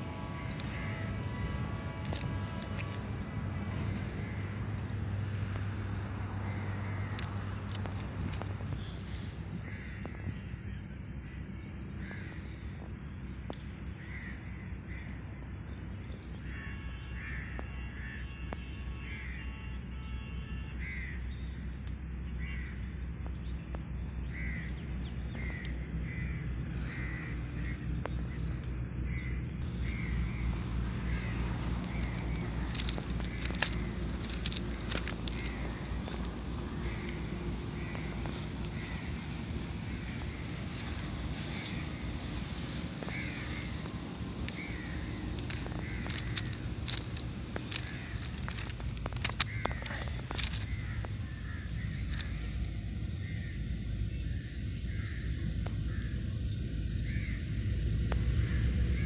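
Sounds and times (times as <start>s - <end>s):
steady low rumble: 0.0s - 18.0s, 21.5s - 59.0s
birds calling: 0.0s - 59.0s.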